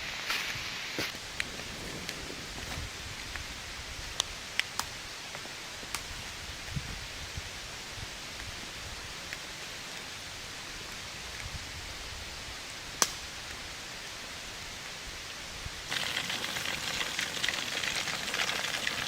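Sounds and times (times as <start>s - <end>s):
rain hissing in forest: 0.0s - 19.0s.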